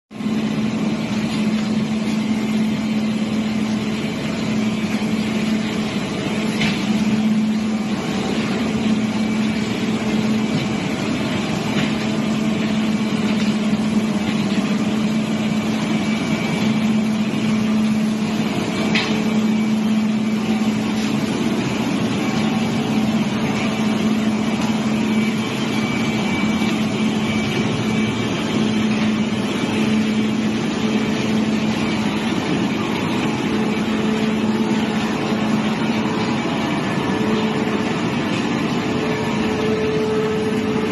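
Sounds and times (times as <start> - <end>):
wood chipper running: 0.1 - 40.9.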